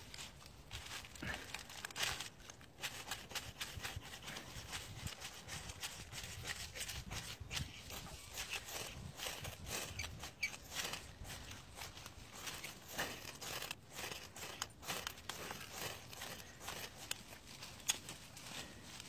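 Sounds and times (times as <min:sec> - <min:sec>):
ferro rod striker scraping: 0:01.9 - 0:18.1.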